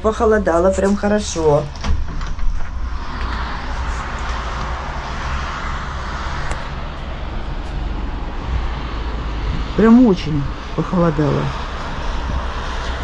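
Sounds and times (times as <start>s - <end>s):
wind and rain rushing: 0.0s - 13.0s
wind rumble on microphone: 0.0s - 13.0s.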